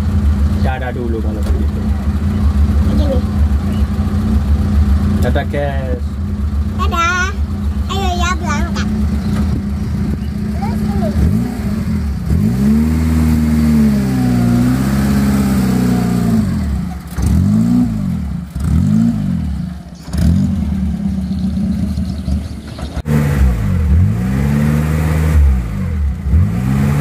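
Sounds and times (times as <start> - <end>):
pickup engine revving: 0.0 - 27.0.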